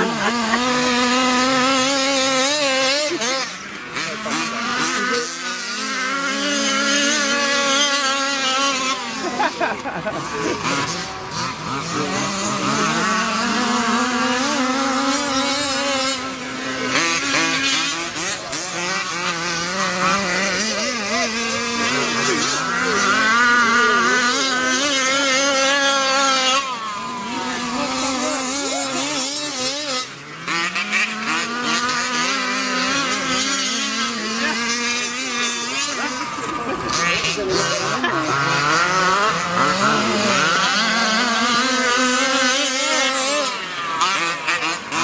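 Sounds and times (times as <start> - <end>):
two-stroke engine revving high: 0.0 - 45.0.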